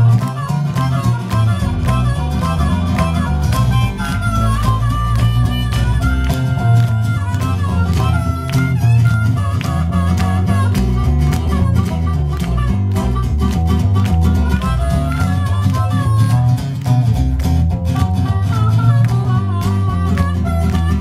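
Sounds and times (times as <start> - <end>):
blues rock band playing: 0.0 - 21.0
harmonica long held notes: 0.0 - 21.0.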